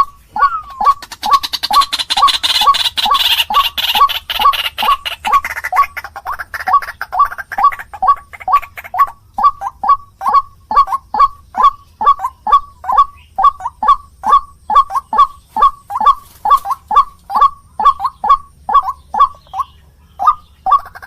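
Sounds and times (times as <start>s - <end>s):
bird harsh calls: 0.0s - 21.0s.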